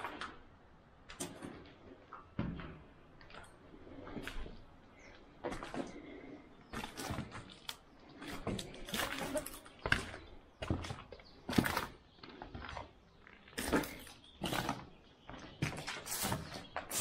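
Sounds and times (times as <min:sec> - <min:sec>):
footsteps crunching over rubble: 0:00.0 - 0:17.0.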